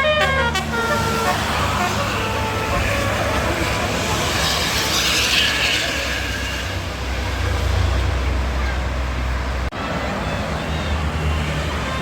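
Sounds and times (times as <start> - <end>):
heavy vehicle passing: 0.0 - 12.0.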